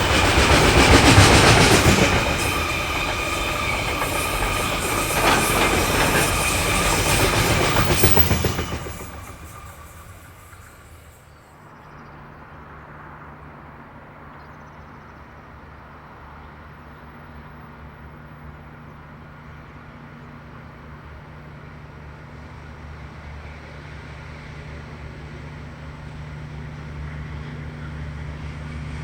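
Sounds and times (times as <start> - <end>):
passing train: 0.0 - 29.0.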